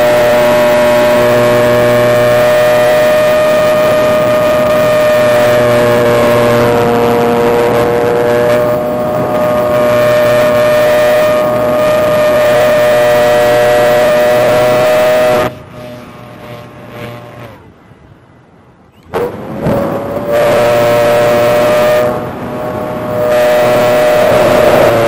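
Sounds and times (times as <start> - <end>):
electric motor propeller whine: 0.0 - 17.8, 19.1 - 25.0.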